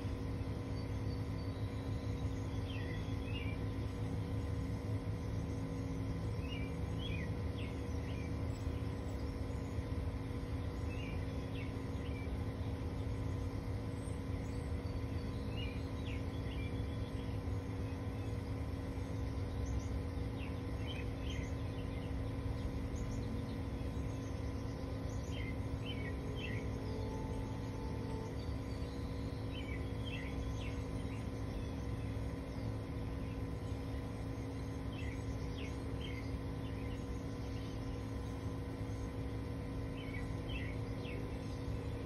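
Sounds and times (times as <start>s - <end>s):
constant hum: 0.0s - 42.0s
small birds chirping: 0.0s - 42.0s.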